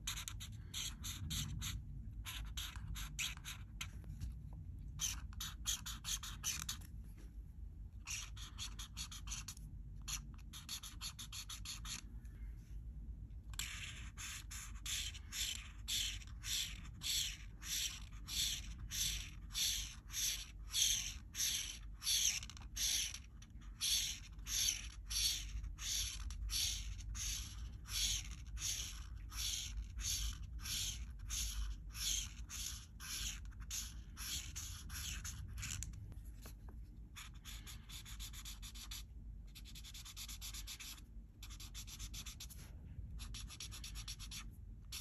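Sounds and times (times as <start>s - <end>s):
marker rubbing on paper: 0.0s - 4.1s, 4.9s - 6.9s, 8.0s - 12.1s, 13.5s - 36.5s, 37.1s - 45.0s.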